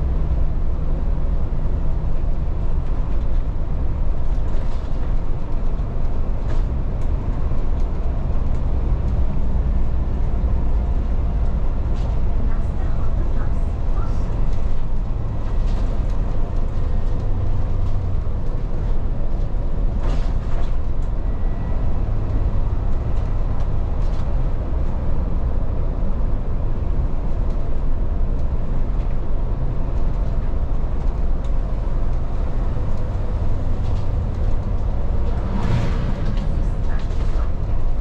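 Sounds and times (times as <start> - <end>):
bus engine and road drone: 0.0 - 38.0.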